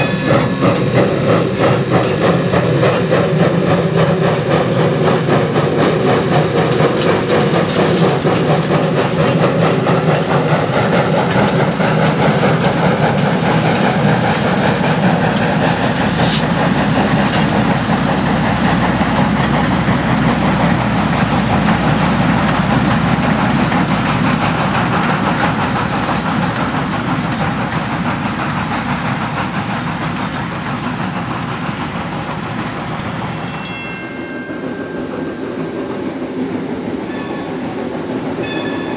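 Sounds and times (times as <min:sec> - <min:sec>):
train clattering past: 0:00.0 - 0:38.9.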